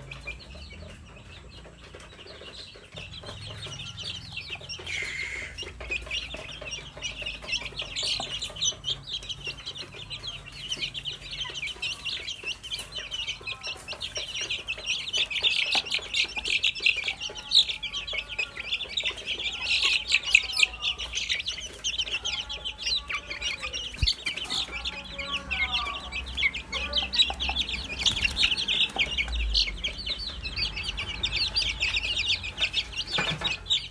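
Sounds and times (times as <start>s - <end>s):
chicks peeping: 0.0s - 33.9s.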